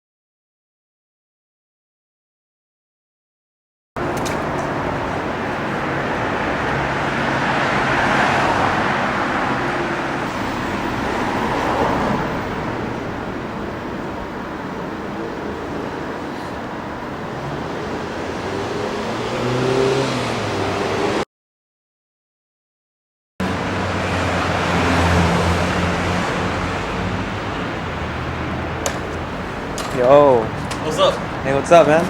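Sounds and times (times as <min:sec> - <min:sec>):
traffic rumble of passing vehicles: 0:04.0 - 0:21.2, 0:23.4 - 0:32.0.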